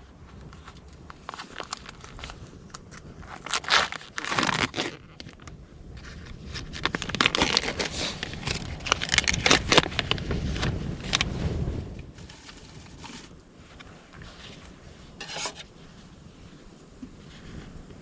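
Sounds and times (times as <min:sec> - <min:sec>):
crackling crinkling handling noise: 0:00.0 - 0:17.7.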